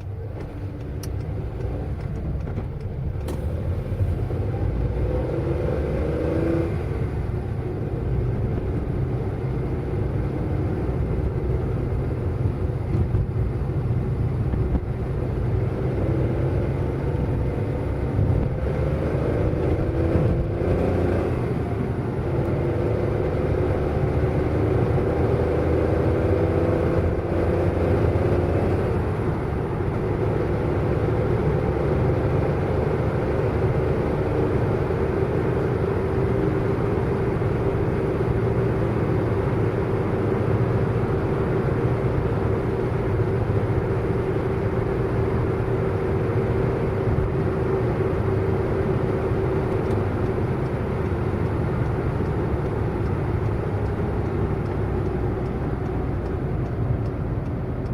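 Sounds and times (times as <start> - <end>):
car engine drone: 0.0 - 57.9
road rumble: 0.0 - 57.9.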